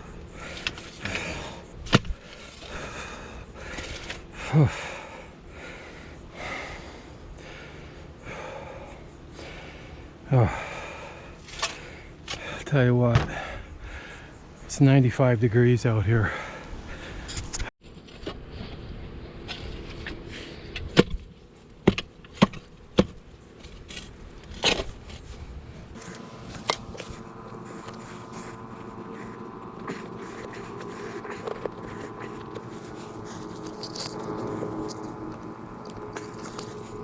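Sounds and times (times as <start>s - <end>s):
faint hum: 0.0s - 21.7s, 22.8s - 37.0s.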